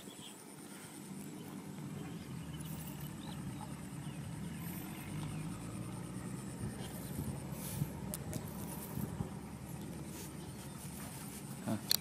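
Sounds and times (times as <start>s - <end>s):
motor engine running: 0.7s - 12.0s.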